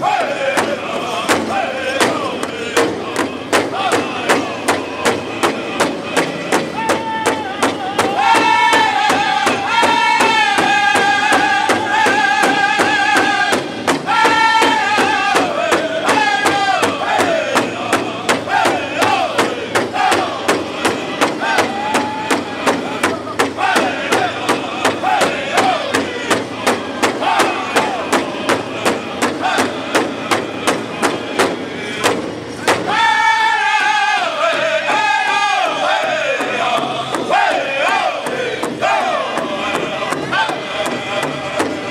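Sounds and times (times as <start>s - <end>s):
group singing high-pitched unison: 0.0s - 41.9s
large drum steady beat: 0.0s - 41.9s.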